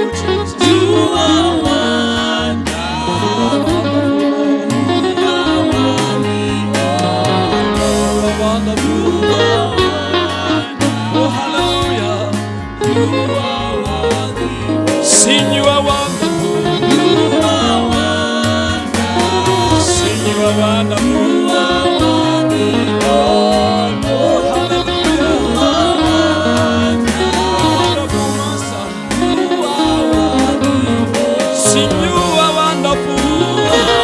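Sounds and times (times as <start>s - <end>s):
gospel worship music: 0.0s - 34.0s.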